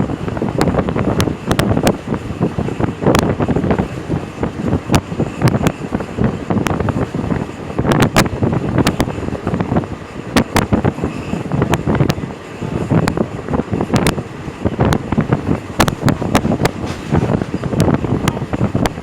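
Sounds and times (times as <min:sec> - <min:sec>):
vehicle rumbling: 0:00.0 - 0:19.0
wind buffeting microphone: 0:00.0 - 0:19.0.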